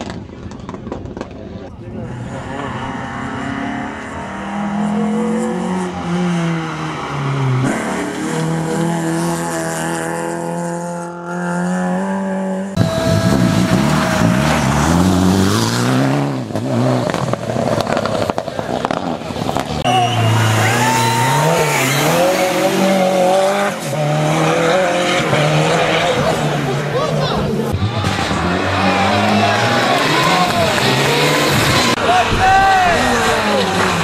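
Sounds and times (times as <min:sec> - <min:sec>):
rally car engines passing: 0:00.0 - 0:34.0.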